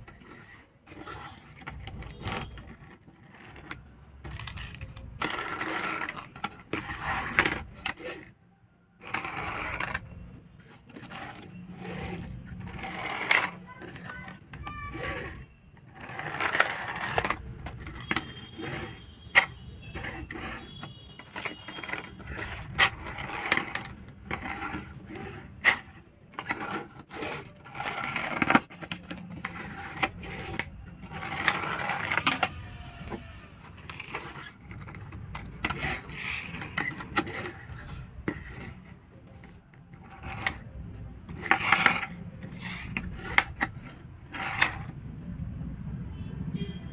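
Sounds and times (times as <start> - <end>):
plastic toy cars clicking: 0.0 - 8.4, 9.0 - 45.0
toy car wheels whirring: 0.0 - 8.4, 9.0 - 45.0.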